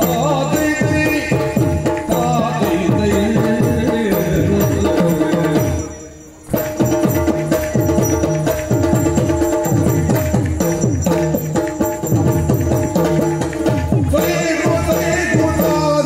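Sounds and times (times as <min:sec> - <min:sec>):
jingling: 0:00.0 - 0:16.0.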